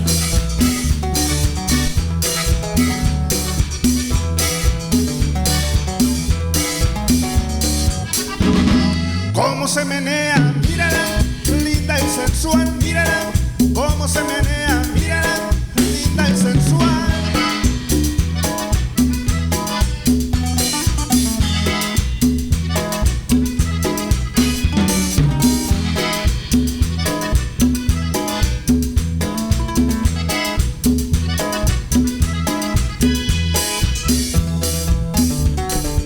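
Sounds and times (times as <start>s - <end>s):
band playing instrumental: 0.0s - 36.0s
drum kit beat: 0.0s - 36.0s
repeating bass line: 0.0s - 36.0s.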